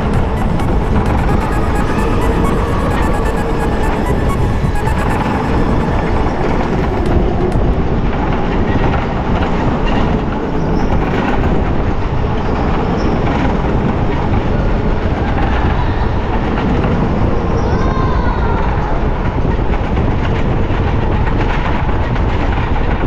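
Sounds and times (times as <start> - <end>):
go-kart rolling rumble: 0.0 - 23.0.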